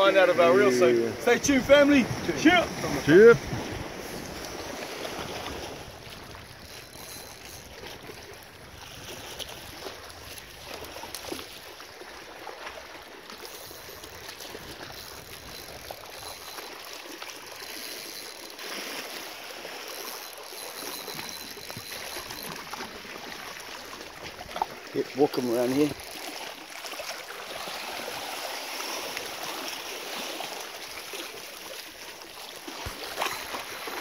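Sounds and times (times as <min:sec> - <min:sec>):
sea water washing among rocks: 0:00.1 - 0:34.0.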